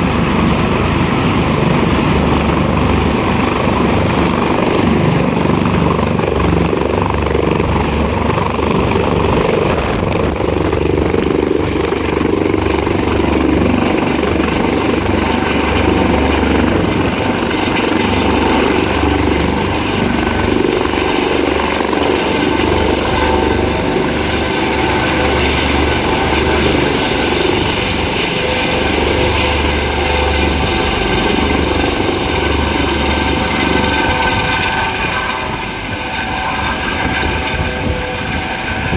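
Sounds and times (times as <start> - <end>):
helicopter rotor beat: 0.0 - 38.9
high turbine whine: 0.0 - 38.9.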